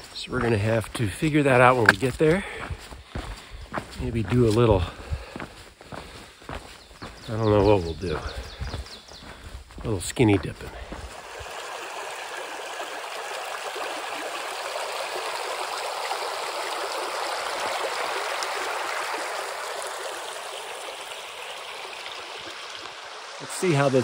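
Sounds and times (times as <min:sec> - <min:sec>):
water rushing over stones: 0:00.0 - 0:05.2, 0:09.8 - 0:24.0.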